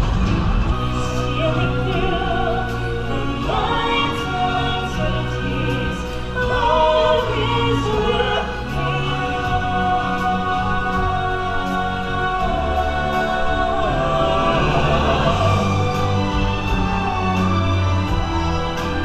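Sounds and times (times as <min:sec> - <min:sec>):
orchestral backing track: 0:00.0 - 0:19.0
choir holding long notes: 0:00.6 - 0:19.0.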